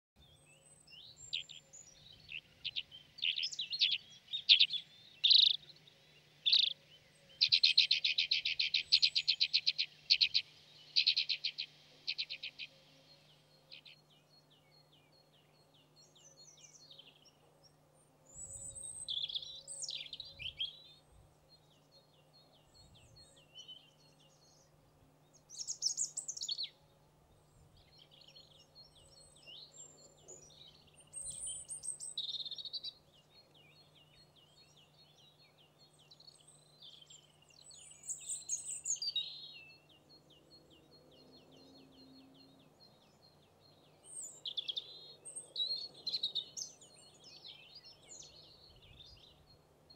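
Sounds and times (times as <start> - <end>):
bird chirping and singing: 0.2 - 17.5, 18.3 - 24.7, 25.4 - 26.8, 27.4 - 49.9.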